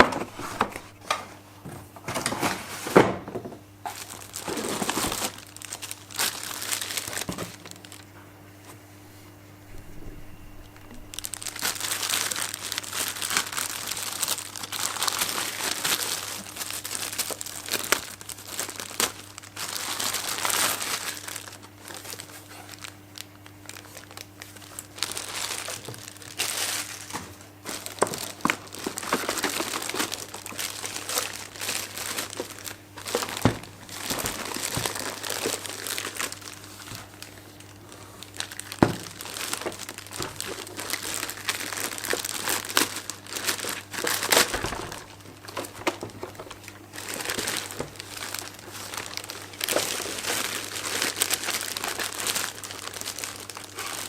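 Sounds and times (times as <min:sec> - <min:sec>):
packaging crinkling and rustling: 0:00.0 - 0:01.3, 0:02.0 - 0:08.2, 0:09.1 - 0:54.0.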